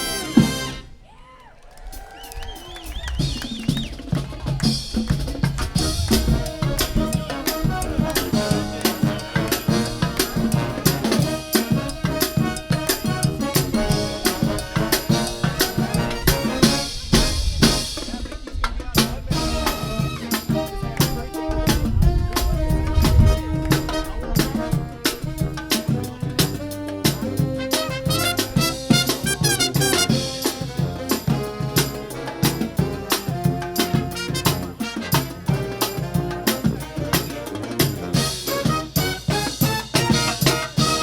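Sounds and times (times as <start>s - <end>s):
drums beating: 0.0s - 0.9s, 1.7s - 41.0s
brass marching band playing: 0.0s - 1.0s, 1.9s - 41.0s.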